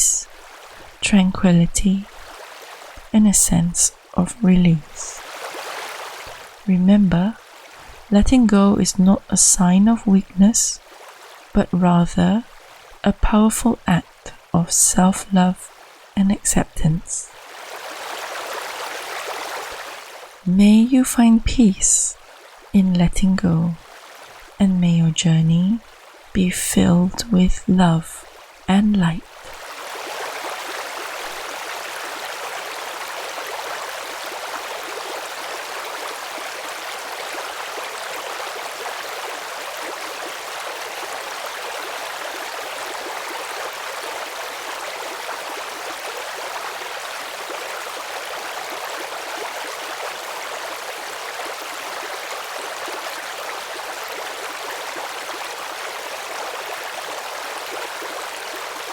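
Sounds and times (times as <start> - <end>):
flowing stream water: 0.0 - 58.9.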